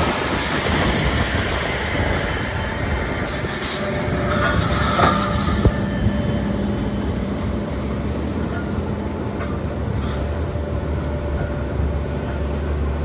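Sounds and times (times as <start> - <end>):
diesel engine rumbling: 0.0 - 13.0
harvesting machinery din: 0.0 - 13.0.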